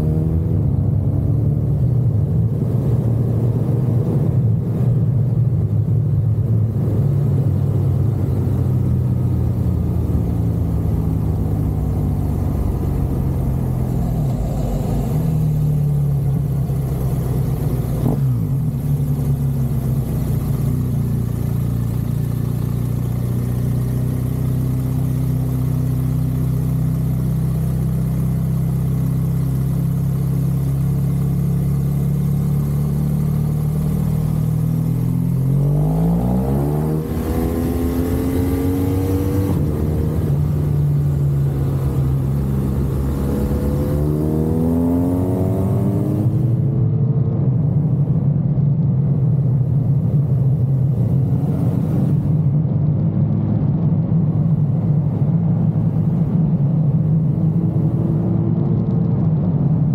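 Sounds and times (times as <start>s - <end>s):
motorcycle engine running and revving: 0.0s - 59.9s.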